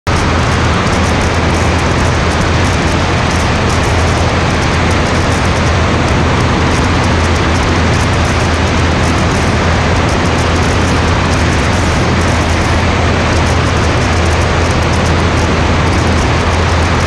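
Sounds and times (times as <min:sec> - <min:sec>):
aircraft engine and propeller drone: 0:00.1 - 0:17.0
wind rush: 0:00.1 - 0:17.0.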